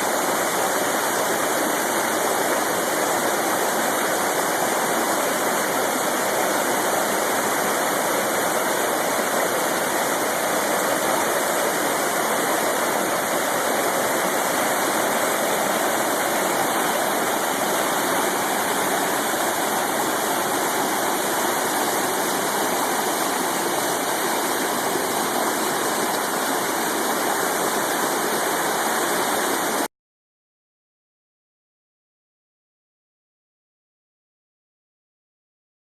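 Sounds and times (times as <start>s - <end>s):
creek water rushing: 0.0s - 29.9s.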